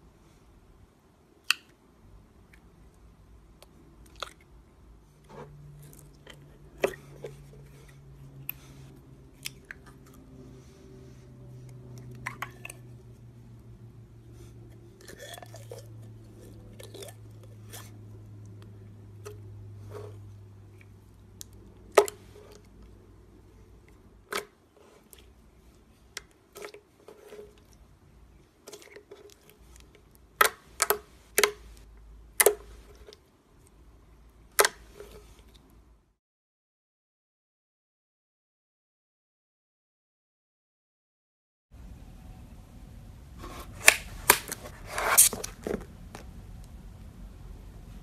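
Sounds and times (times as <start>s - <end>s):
low steady hum: 0.0s - 36.2s, 41.8s - 48.0s.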